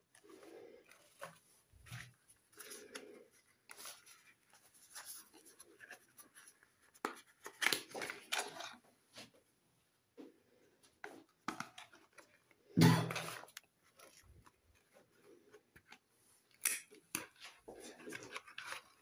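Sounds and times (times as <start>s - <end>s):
soap bars and boxes handled: 0.0s - 19.0s.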